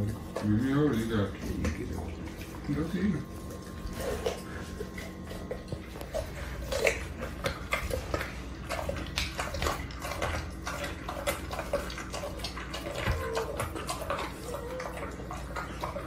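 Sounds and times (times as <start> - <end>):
dog licking and gnawing: 0.0 - 16.0.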